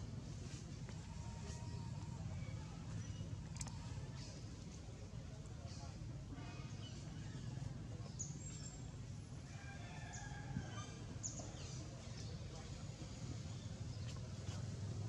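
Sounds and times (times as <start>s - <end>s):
low outdoor background hum: 0.0s - 15.0s.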